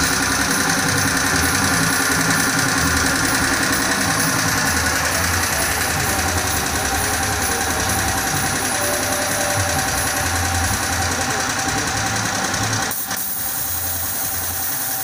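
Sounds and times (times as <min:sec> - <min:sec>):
motor running with rapid pulsing: 0:00.0 - 0:15.0.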